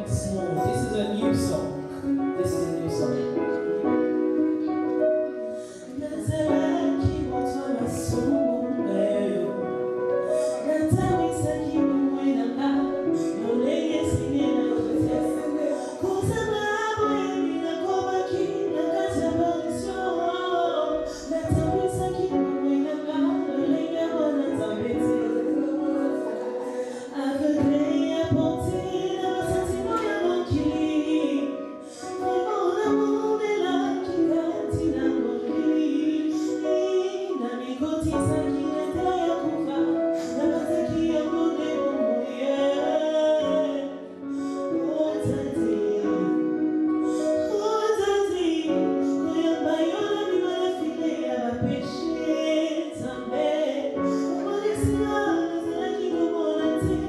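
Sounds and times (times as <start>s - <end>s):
woman singing gospel song: 0.0s - 3.3s, 5.6s - 9.7s, 10.3s - 57.0s.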